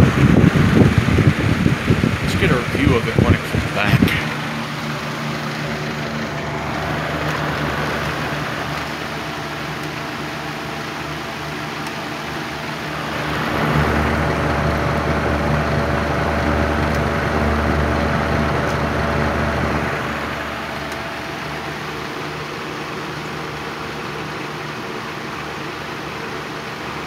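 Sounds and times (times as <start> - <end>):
box fan whirring: 0.0 - 27.0.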